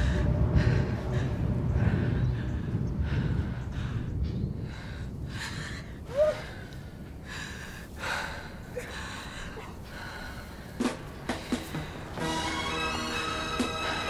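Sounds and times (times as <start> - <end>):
woman breathing hard: 0.0 - 12.3.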